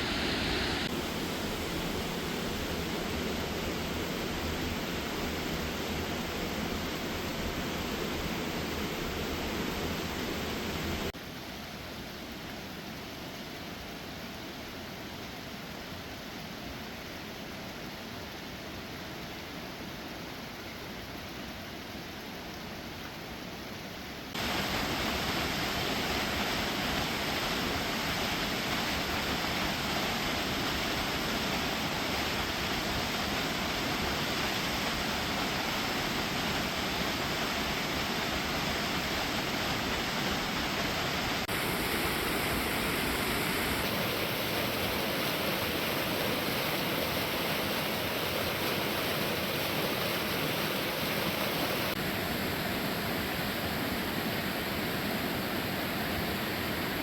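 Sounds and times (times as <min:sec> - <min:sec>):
waterfall rushing water: 0:00.0 - 0:57.0.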